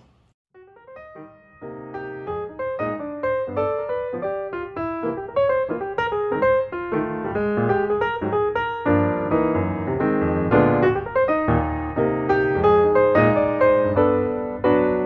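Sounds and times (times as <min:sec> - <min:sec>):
piano music: 0:00.5 - 0:15.0.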